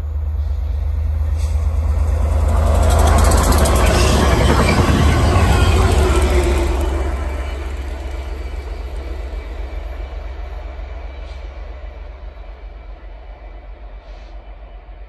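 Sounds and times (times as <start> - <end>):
diesel locomotive engine drone: 0.0 - 15.0
train wheels rumbling: 0.0 - 15.0.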